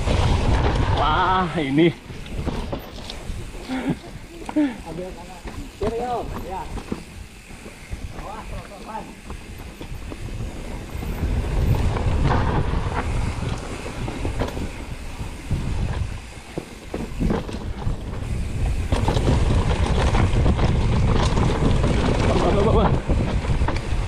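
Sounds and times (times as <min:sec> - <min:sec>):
bike rattling: 0:00.0 - 0:24.0
wind buffeting microphone: 0:00.0 - 0:24.0.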